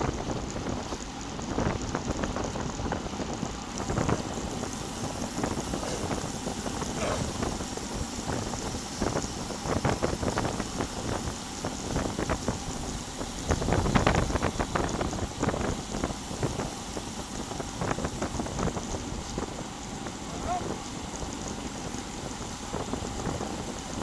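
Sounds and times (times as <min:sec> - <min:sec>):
bike riding hiss and rumble: 0:00.0 - 0:24.0
wind buffeting microphone: 0:00.0 - 0:24.0.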